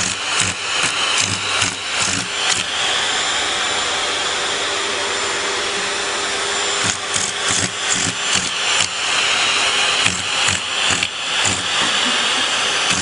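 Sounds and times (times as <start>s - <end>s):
air rushing from pump hose: 0.0s - 3.7s, 5.8s - 13.0s.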